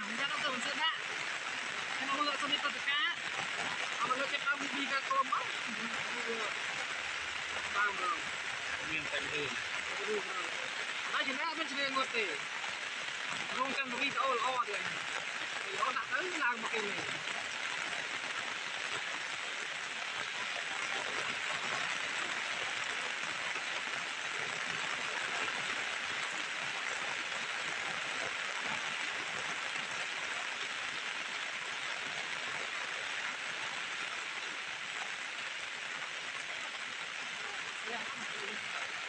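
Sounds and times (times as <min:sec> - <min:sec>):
heavy rain splashing: 0:00.0 - 0:39.0
rain pattering on plastic umbrella: 0:00.0 - 0:39.0.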